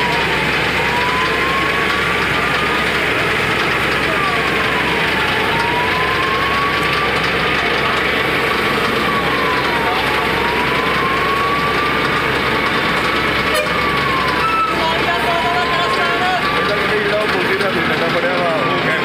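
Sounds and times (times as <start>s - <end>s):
fire truck engine running: 0.0s - 19.0s
siren wailing: 0.0s - 19.0s.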